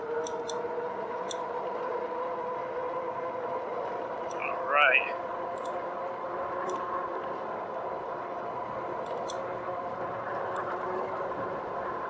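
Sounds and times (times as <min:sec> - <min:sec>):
electric bike motor whine: 0:00.0 - 0:12.0
road and wind noise: 0:00.0 - 0:12.0.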